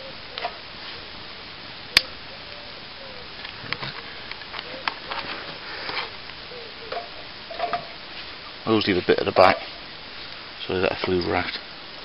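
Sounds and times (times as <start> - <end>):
wood fire crackling: 0.3 - 12.0.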